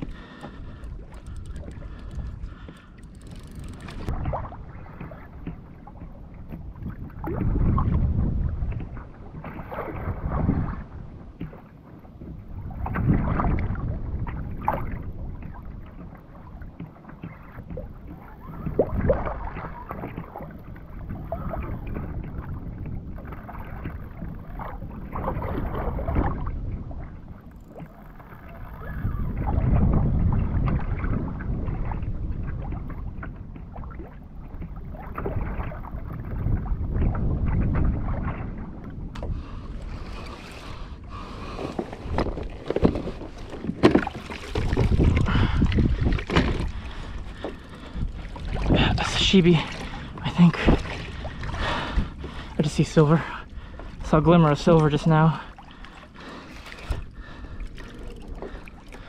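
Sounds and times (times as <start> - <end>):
wind on microphone: 0.0 - 11.6, 12.2 - 55.6, 56.2 - 59.0
water slapping against kayak hull: 0.0 - 59.0.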